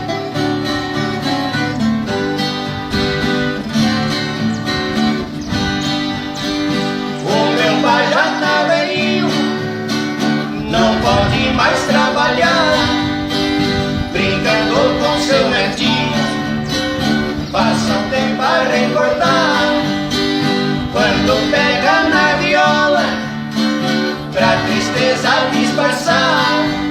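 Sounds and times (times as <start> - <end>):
plucked guitar melody: 0.0 - 26.9
strummed acoustic guitar chords: 0.0 - 26.9.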